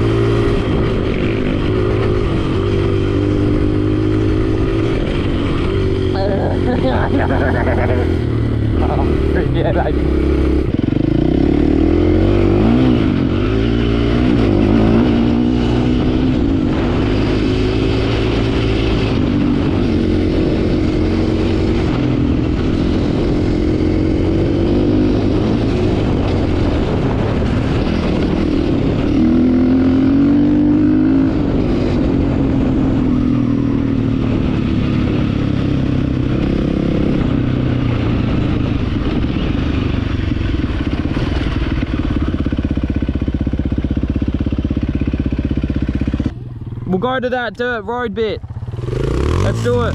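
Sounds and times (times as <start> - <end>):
dirt bike engine revving: 0.0 - 33.3, 40.7 - 49.9.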